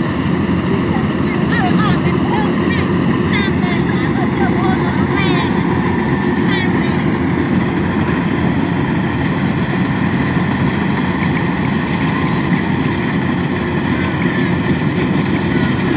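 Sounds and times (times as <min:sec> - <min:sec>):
heavy farm machine engine running: 0:00.0 - 0:15.9.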